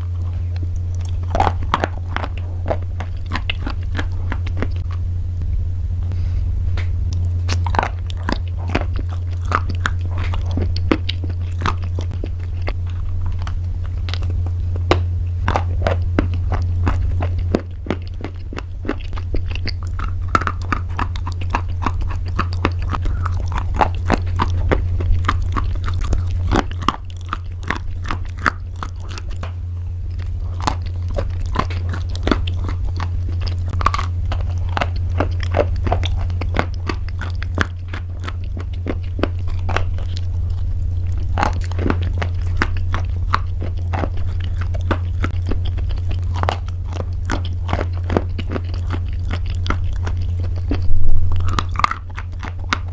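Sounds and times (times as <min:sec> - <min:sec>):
chewing crunchy pasta: 0:00.0 - 0:05.1, 0:07.1 - 0:52.9
low hum: 0:00.0 - 0:52.9.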